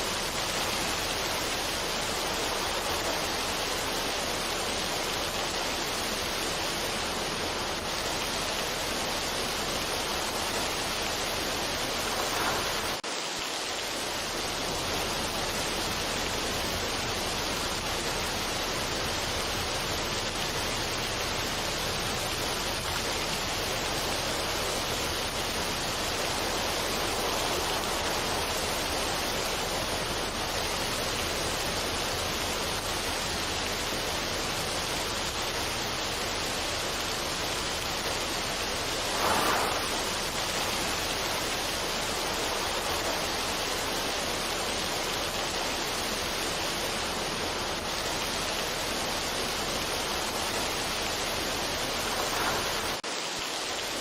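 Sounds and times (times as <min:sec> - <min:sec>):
rushing water or rain: 0:00.0 - 0:54.0.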